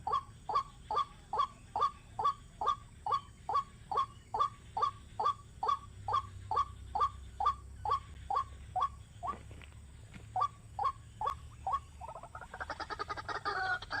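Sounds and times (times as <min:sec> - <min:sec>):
bird chattering: 0:00.0 - 0:09.5, 0:10.3 - 0:14.0
bird calling: 0:00.0 - 0:14.0.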